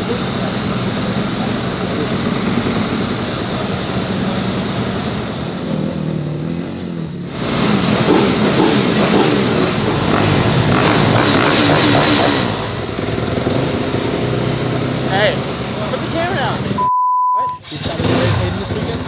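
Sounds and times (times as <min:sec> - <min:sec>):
dirt bike engine revving: 0:00.0 - 0:16.8, 0:17.6 - 0:19.0.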